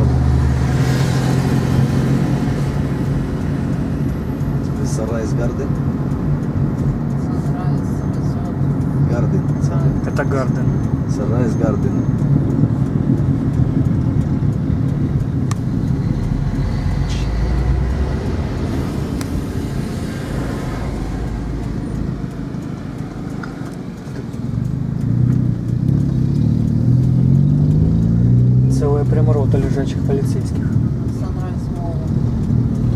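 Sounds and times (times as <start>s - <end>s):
car engine: 0.0s - 32.9s
road noise inside car: 0.0s - 32.9s.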